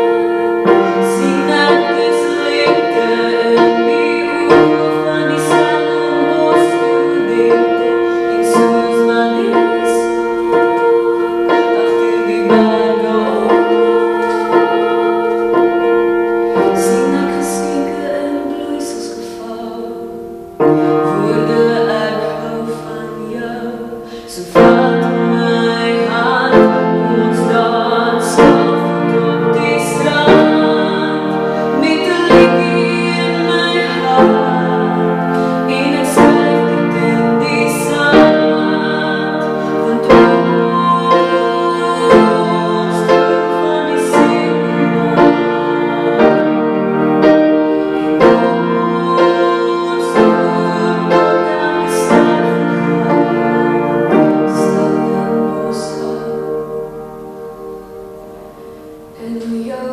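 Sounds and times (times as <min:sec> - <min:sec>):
upright piano accompaniment: 0:00.0 - 0:59.7
woman singing: 0:00.0 - 0:59.9.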